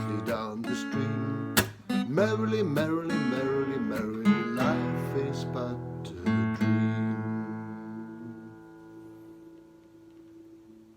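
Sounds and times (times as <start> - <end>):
acoustic guitar strumming: 0.0 - 10.9.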